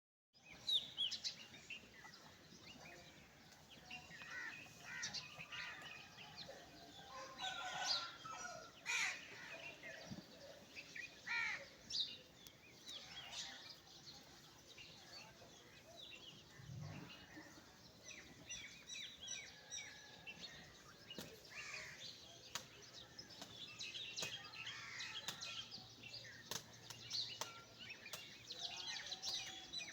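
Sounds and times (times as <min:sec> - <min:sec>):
low outdoor background: 0:00.4 - 0:29.9.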